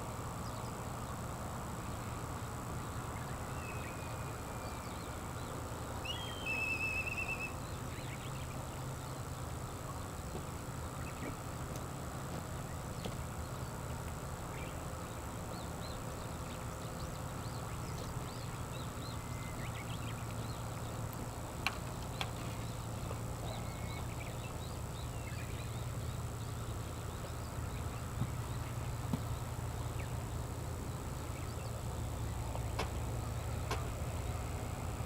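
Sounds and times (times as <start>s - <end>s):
outdoor background rumble: 0.0s - 35.0s.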